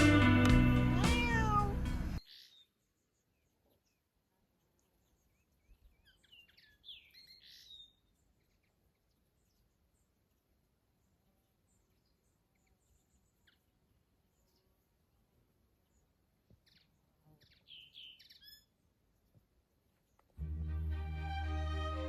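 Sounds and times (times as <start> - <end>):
birds chirping: 0.0 - 14.9, 15.8 - 20.4.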